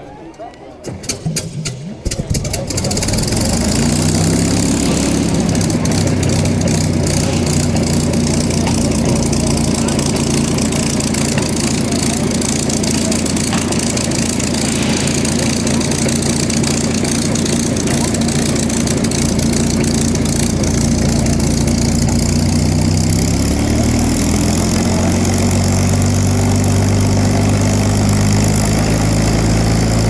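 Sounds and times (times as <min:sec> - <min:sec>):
aircraft engine idling: 0:01.0 - 0:30.0.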